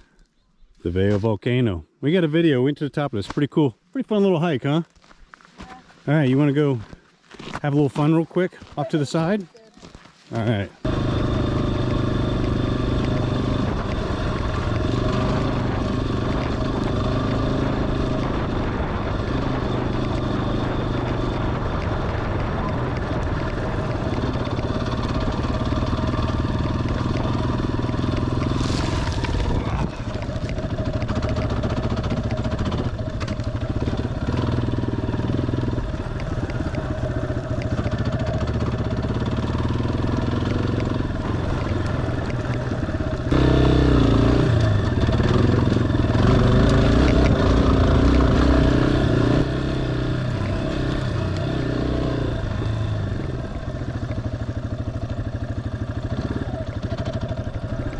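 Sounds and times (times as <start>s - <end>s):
motorcycle engine revving: 10.4s - 57.9s.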